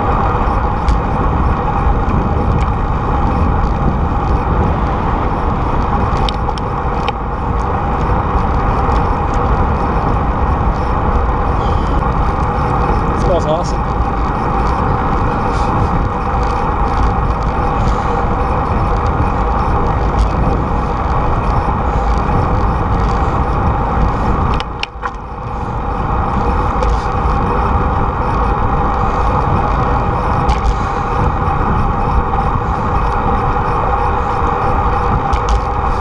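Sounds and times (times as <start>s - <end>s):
rushing wind noise: 0.0s - 36.0s.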